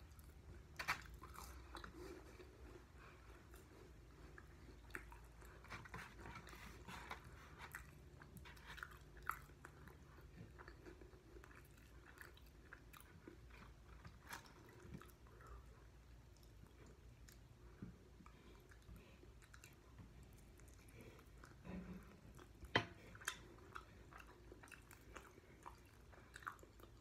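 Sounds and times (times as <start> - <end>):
faint chewing: 0.0 - 27.0.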